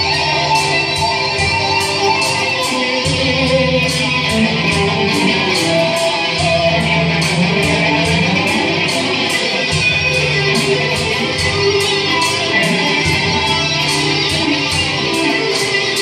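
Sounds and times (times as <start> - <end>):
electric guitar: 0.0 - 16.0
ticking cymbal strokes: 0.0 - 16.0.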